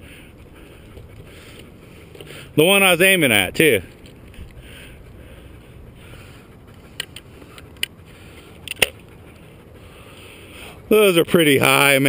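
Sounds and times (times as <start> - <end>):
low outdoor rustle: 0.0 - 12.0.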